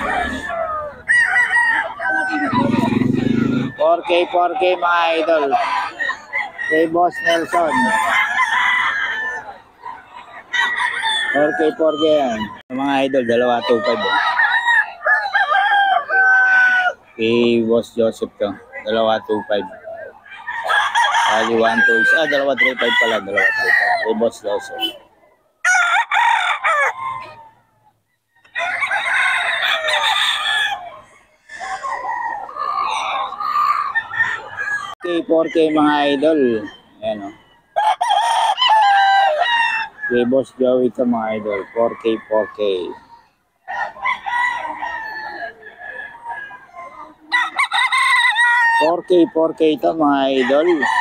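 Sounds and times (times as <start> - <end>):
rooster crowing: 0.0 - 9.7, 10.4 - 17.2, 19.1 - 25.0, 25.6 - 27.8, 28.4 - 51.0.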